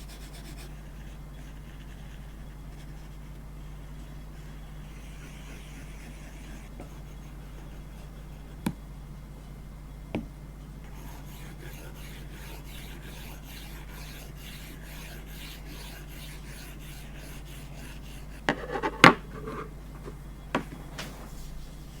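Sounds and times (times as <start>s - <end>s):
steady low hum: 0.0s - 22.0s
stylus scratching on screen: 0.1s - 8.6s, 10.9s - 20.2s.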